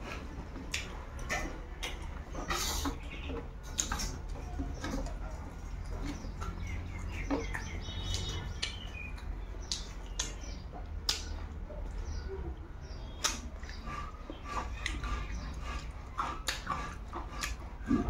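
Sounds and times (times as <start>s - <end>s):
chewing and lip smacks: 0.1s - 18.0s.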